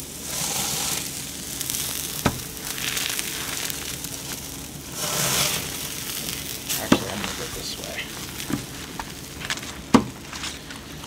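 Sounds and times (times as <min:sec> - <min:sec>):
steaks sizzling: 0:00.0 - 0:11.0.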